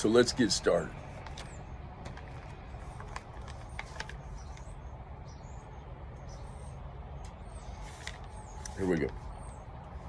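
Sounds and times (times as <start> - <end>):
distant bird chirps: 0.0 - 10.0.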